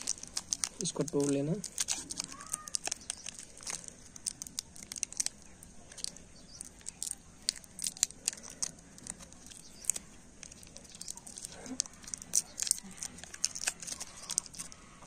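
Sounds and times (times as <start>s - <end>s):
wrapper crinkling and tearing: 0.0s - 15.0s.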